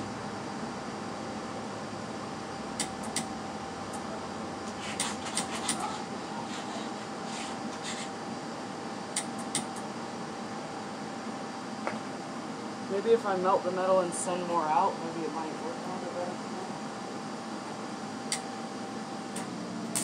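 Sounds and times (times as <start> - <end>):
background hum with thin tone: 0.0 - 20.0.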